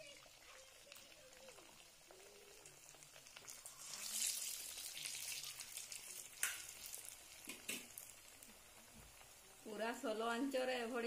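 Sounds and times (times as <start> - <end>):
pastries deep-frying in oil: 0.0 - 11.0.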